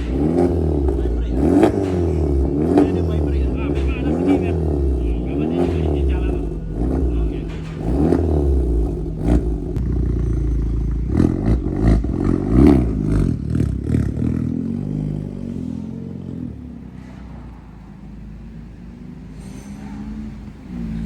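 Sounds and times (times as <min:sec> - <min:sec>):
car engine revving and idling: 0:00.0 - 0:21.0
exhaust pops: 0:00.0 - 0:21.0.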